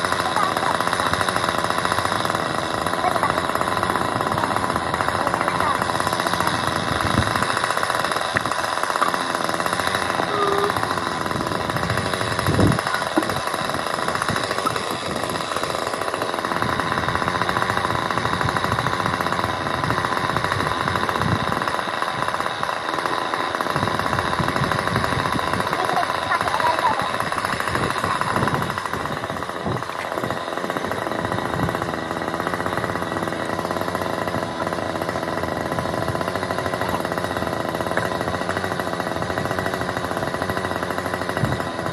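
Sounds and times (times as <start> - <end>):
roadworks machine hammering: 0.0 - 41.9.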